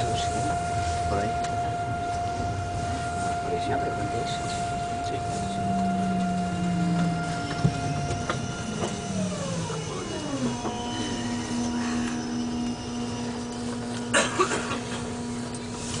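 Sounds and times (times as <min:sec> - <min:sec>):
train traction motor whine: 0:00.0 - 0:16.0.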